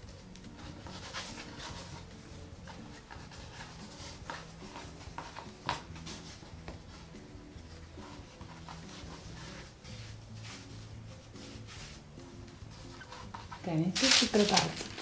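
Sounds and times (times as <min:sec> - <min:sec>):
quiet background music: 0:00.0 - 0:15.0
hands rubbing dough: 0:00.3 - 0:15.0.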